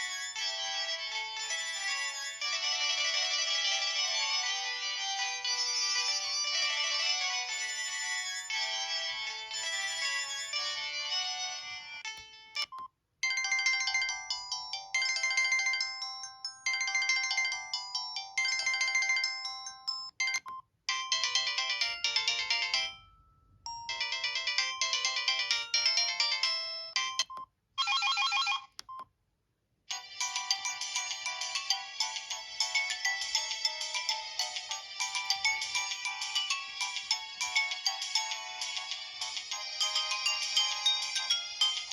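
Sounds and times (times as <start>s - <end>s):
mobile phone melodic ringtones: 0.0s - 28.7s, 29.9s - 41.9s.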